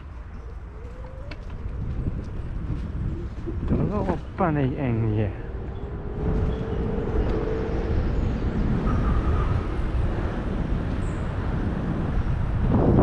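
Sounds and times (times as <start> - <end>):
bike tyres rumbling on asphalt: 0.0 - 13.0
wind buffeting microphone: 0.0 - 13.0.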